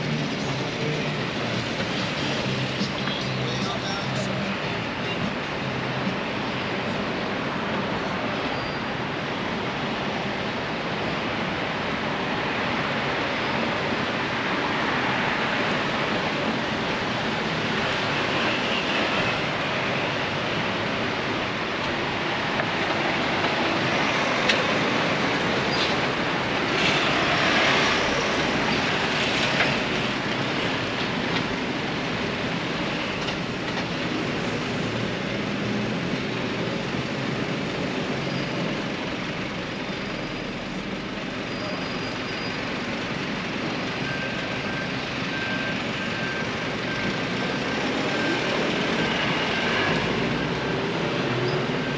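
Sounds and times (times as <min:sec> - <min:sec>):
passing vehicles: 0:00.0 - 0:51.9.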